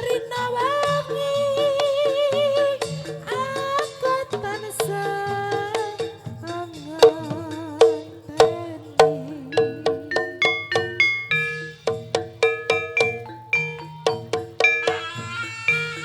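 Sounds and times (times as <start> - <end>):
hand drum strokes: 0.0 - 16.0
wavering held melody line: 0.0 - 16.0
struck metal-keyed notes: 2.4 - 16.0.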